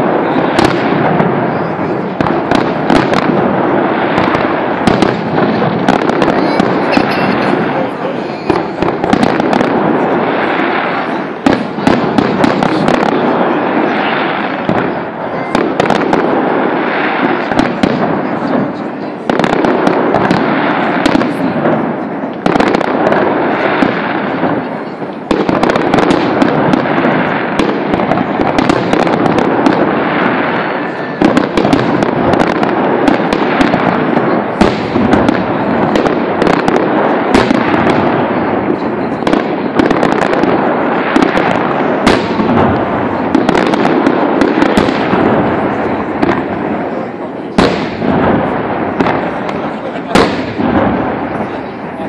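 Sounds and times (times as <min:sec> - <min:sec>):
fireworks bursting with sharp bangs: 0:00.0 - 0:52.0.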